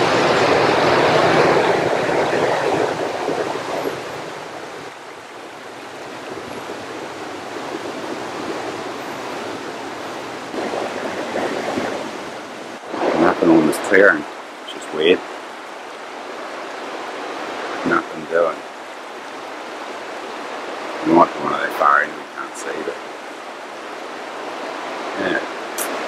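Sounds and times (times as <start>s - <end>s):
river flowing over stones: 0.0s - 26.0s.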